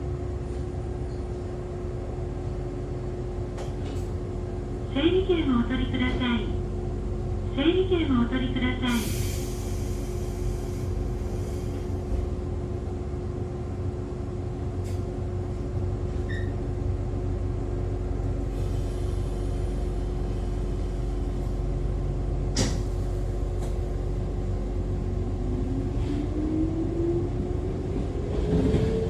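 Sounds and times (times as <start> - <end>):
train low rumble and hum: 0.0 - 29.0.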